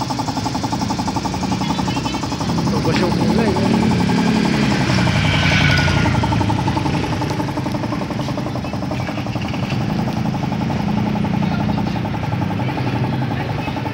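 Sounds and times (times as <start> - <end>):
air compressor chugging: 0.0 - 13.9.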